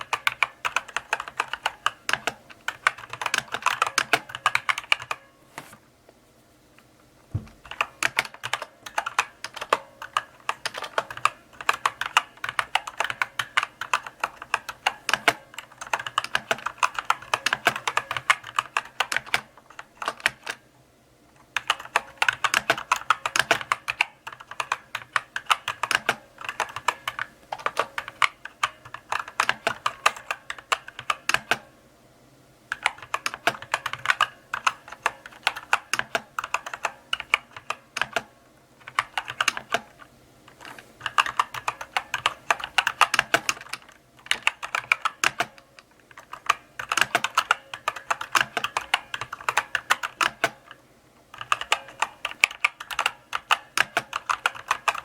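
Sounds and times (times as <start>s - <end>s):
mechanical keyboard typing: 0.0s - 5.3s, 7.5s - 20.7s, 21.4s - 31.7s, 32.7s - 55.0s.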